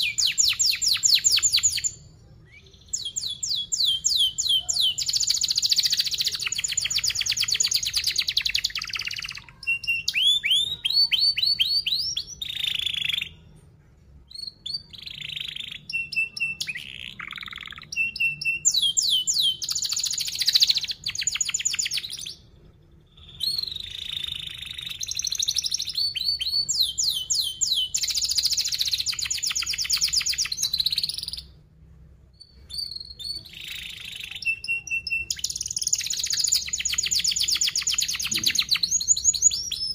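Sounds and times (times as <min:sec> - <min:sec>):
canary singing trills: 0:00.0 - 0:13.7, 0:14.3 - 0:39.9.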